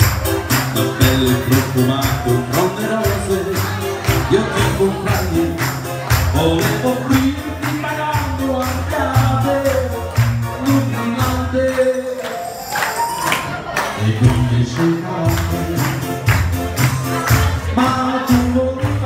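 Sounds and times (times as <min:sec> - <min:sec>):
upbeat music with steady beat: 0:00.0 - 0:19.0.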